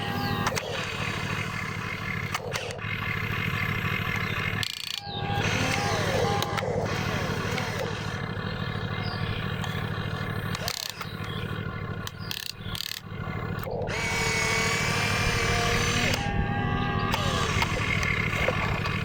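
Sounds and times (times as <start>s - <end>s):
electric motors whining: 0.0s - 19.0s
higher motor whine: 0.0s - 19.0s
steady low hum: 0.0s - 19.0s.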